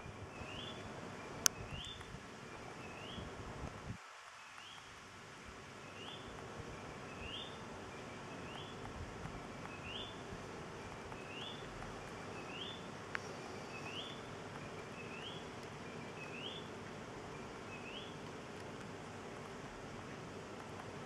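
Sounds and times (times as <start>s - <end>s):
outdoor background hum: 0.0s - 21.0s.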